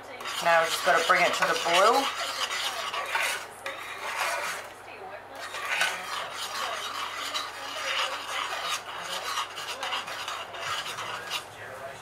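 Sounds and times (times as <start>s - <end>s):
spoon scraping a saucepan: 0.2s - 4.8s, 5.4s - 11.5s.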